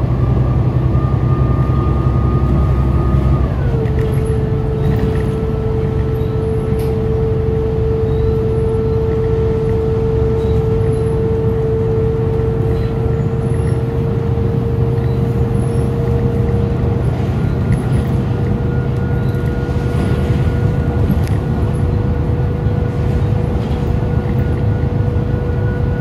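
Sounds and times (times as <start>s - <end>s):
bus engine and road rumble: 0.0s - 26.0s
constant whine: 0.0s - 26.0s.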